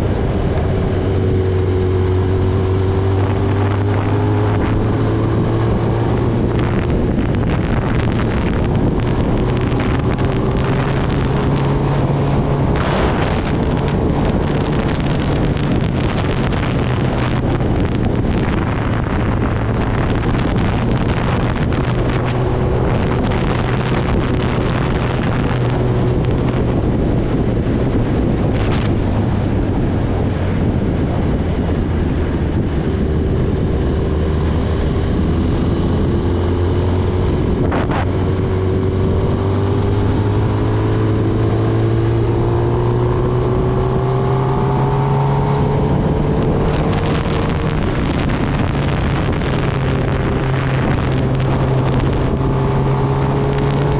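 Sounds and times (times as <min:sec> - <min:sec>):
motorcycle engine accelerating: 0:00.0 - 0:53.9
wind buffeting microphone: 0:00.0 - 0:53.9.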